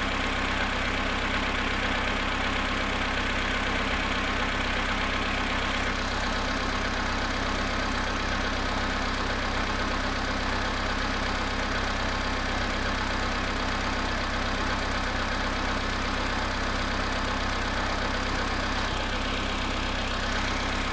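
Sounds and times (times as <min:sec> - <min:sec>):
car engine idling with knock: 0:00.0 - 0:20.9.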